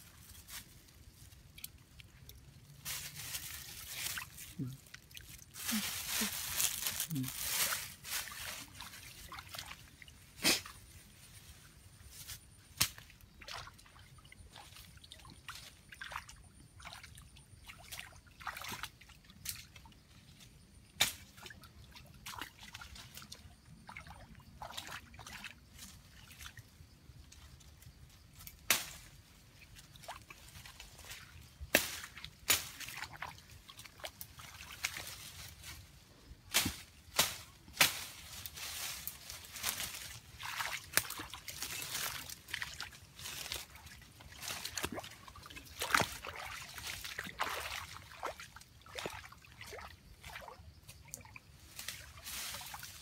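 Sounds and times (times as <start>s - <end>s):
footsteps splashing in muddy water: 0.2s - 10.8s, 12.8s - 20.0s, 21.2s - 26.6s, 29.3s - 35.8s, 38.0s - 53.0s.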